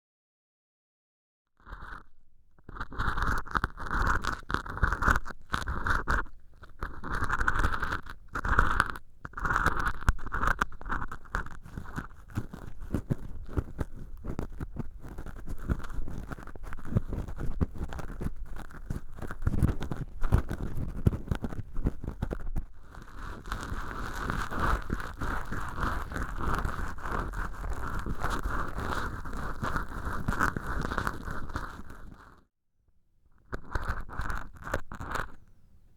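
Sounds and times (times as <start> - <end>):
tools scratching sponge: 1.7 - 32.4, 33.5 - 35.4.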